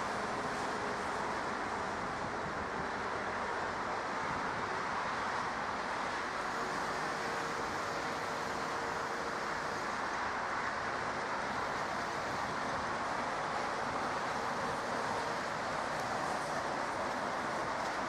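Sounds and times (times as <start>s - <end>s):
faint steady whine: 0.0s - 18.0s.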